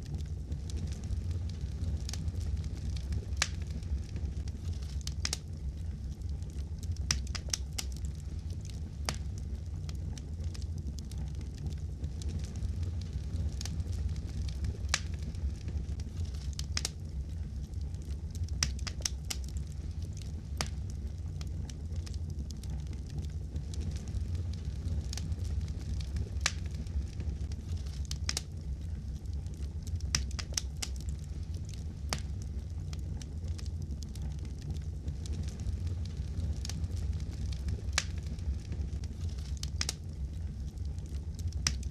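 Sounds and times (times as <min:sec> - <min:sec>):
fire popping and snapping: 0:00.0 - 0:41.9
fire rumbling: 0:00.0 - 0:41.9.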